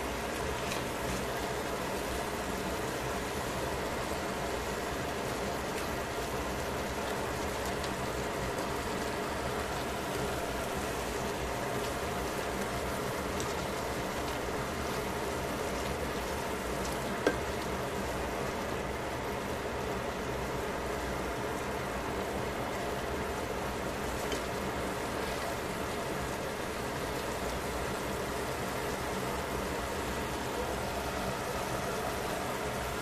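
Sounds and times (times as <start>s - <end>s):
stew bubbling in a pot: 0.0s - 33.0s.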